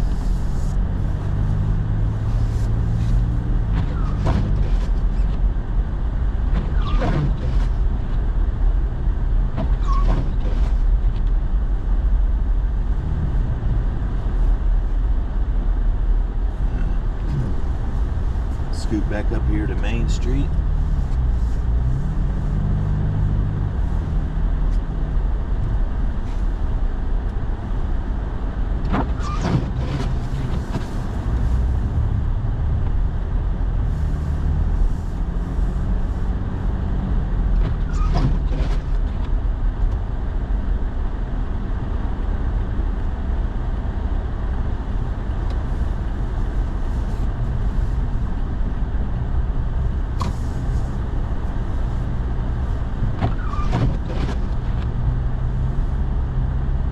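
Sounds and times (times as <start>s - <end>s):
truck engine and road rumble: 0.0s - 56.9s.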